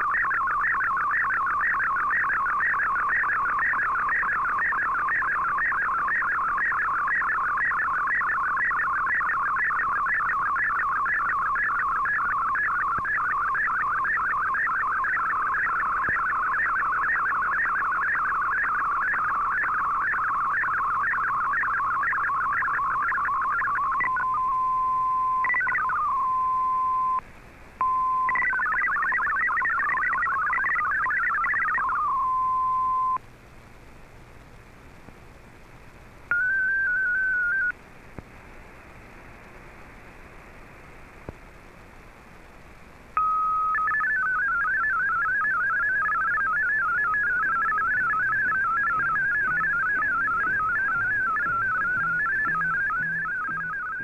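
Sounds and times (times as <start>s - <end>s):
warbling data tones: 0.0s - 27.2s, 27.8s - 33.2s, 36.3s - 37.8s, 43.2s - 54.0s.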